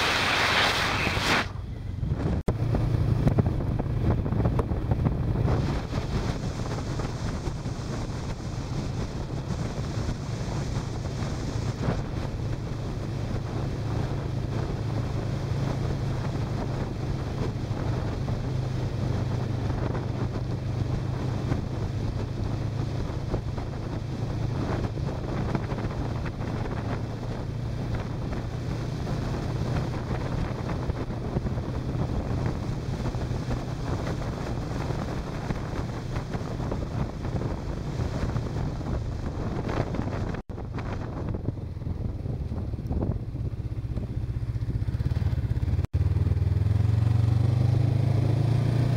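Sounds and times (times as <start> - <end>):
motorcycle engine drone: 0.0 - 48.9
wind buffeting microphone: 0.0 - 48.9.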